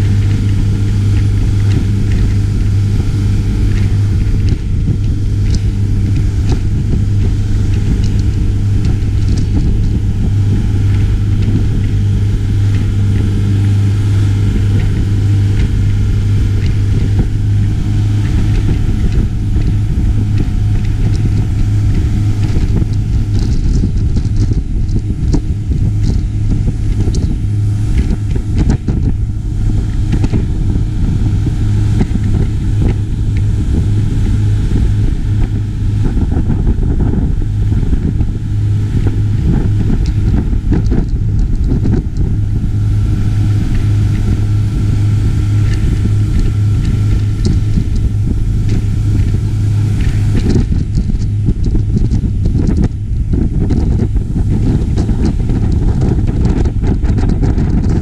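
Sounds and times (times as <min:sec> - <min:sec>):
motorboat engine droning: 0:00.0 - 0:58.0
wind and water rushing: 0:00.0 - 0:58.0.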